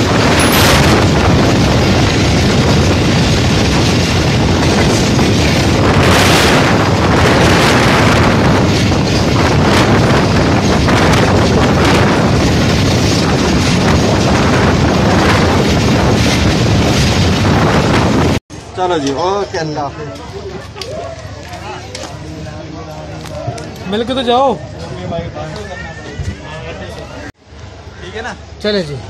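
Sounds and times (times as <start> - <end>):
wind buffeting microphone: 0.0 - 18.4, 22.2 - 27.3
train wheels rumbling on rails: 0.0 - 26.4.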